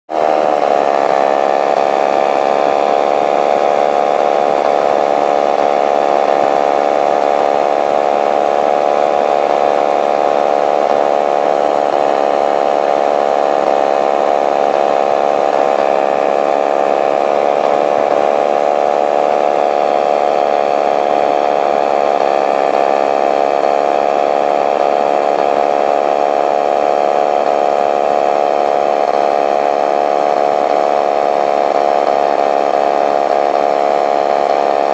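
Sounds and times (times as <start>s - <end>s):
paramotor engine and propeller: 0.1s - 34.9s.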